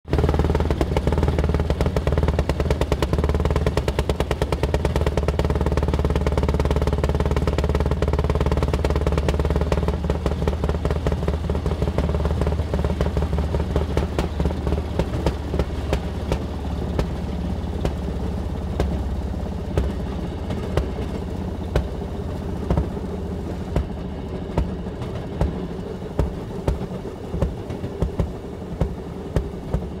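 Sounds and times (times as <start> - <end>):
small engine clattering: 0.1 - 30.0
wheels clicking over rail joints: 0.1 - 30.0.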